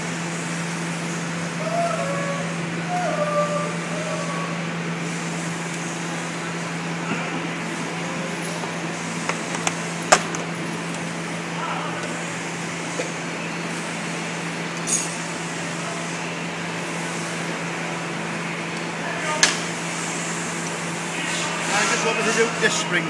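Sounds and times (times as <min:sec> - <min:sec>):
workshop machinery hum: 0:00.0 - 0:23.0.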